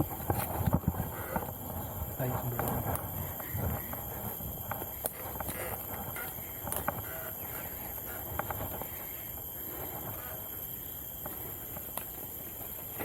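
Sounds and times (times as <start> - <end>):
bike tyres rolling on dirt: 0.0 - 13.0.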